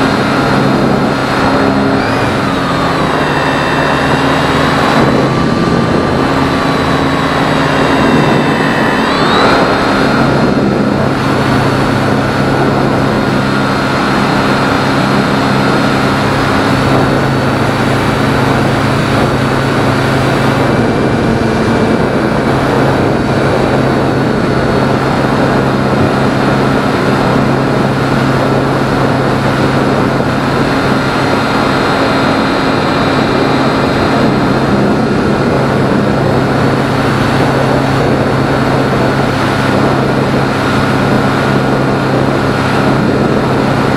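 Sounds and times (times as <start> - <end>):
electric motor and propeller whine: 0.0 - 43.9
wind rushing: 0.0 - 43.9.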